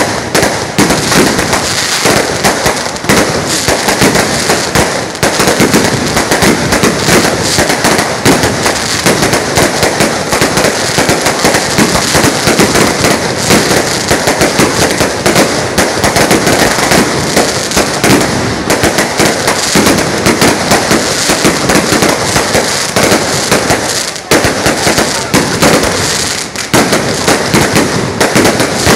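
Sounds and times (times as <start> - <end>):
firecrackers crackling: 0.0 - 28.9.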